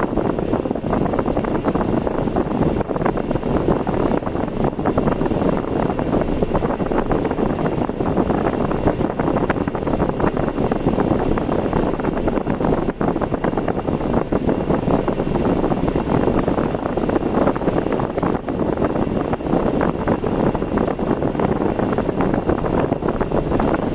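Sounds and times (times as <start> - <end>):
car road and wind noise: 0.0 - 23.9.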